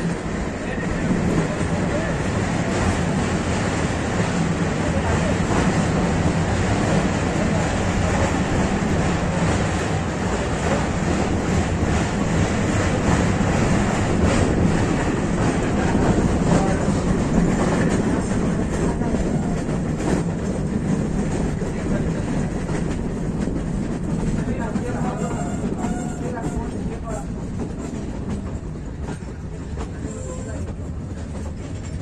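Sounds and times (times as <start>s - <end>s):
train rumbling and rattling: 0.0s - 32.0s
train wheel clacks: 0.0s - 32.0s.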